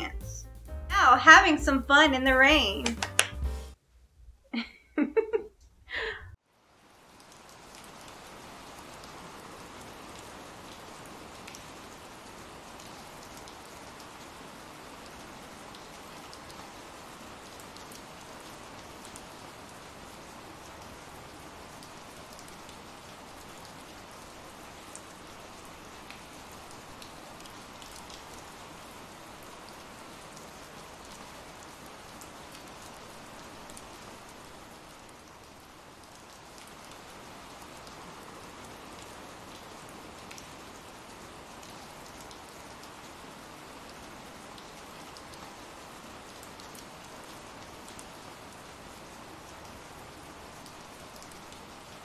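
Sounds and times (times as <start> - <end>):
rain falling: 5.9 - 52.0.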